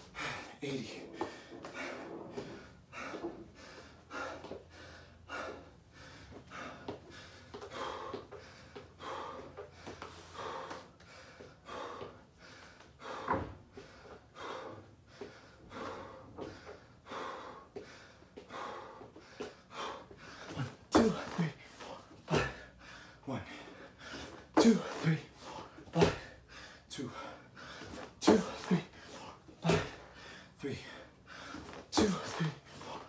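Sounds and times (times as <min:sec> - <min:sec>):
man breathing hard and gasping: 0:00.0 - 0:33.0.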